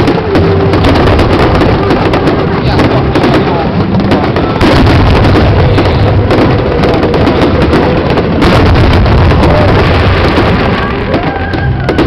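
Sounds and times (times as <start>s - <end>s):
fireworks bursting and booming: 0.0s - 12.0s.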